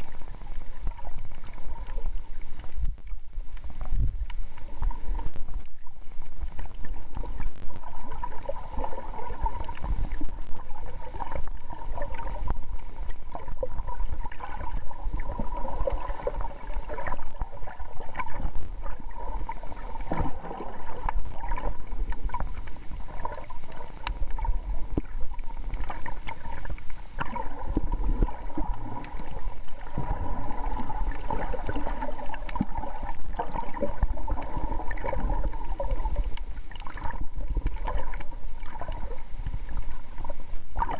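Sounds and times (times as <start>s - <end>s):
small clicks and crackles: 0.0s - 40.9s
steady hum: 0.0s - 40.9s
underwater rumble of water: 0.0s - 40.9s.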